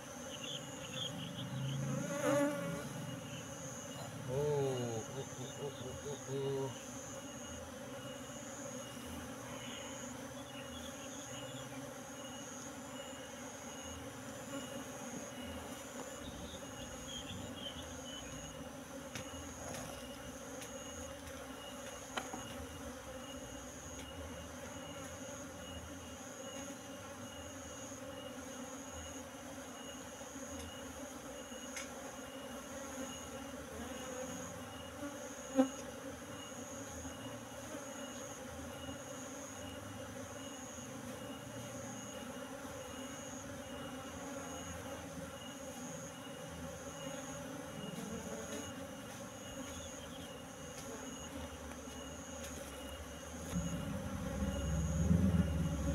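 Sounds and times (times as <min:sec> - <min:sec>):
bees humming: 0:00.0 - 0:55.9.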